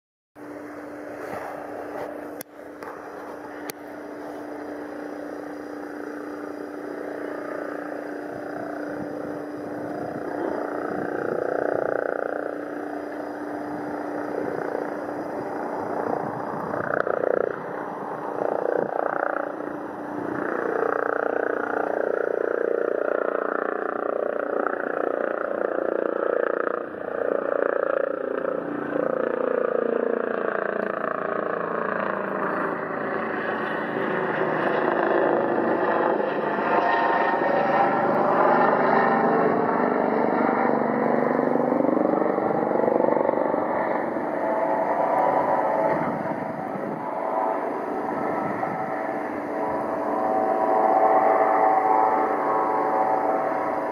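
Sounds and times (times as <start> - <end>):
light aircraft engine droning: 0.4 - 53.9.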